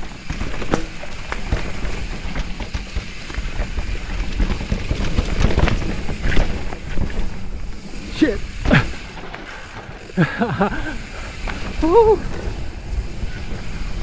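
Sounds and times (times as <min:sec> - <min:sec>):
bike rattling over bumps: 0:00.0 - 0:14.0
tyres rumbling on dirt: 0:00.0 - 0:14.0.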